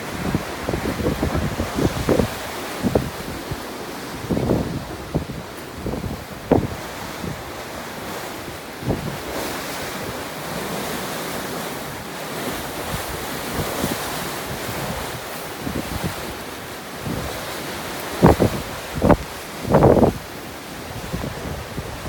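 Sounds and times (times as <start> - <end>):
gusts buffeting microphone: 0.0 - 22.0
wind and rain rushing: 0.0 - 22.0.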